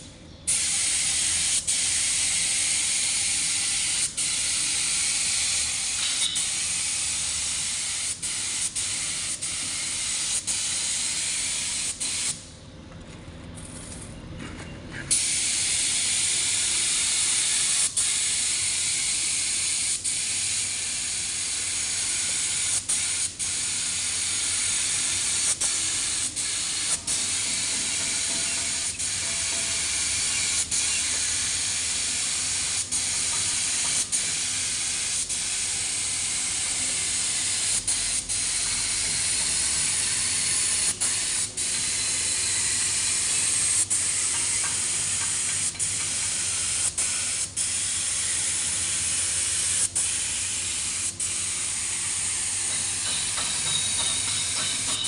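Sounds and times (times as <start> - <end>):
paint spray gun hissing: 0.5 - 12.4, 15.1 - 55.0.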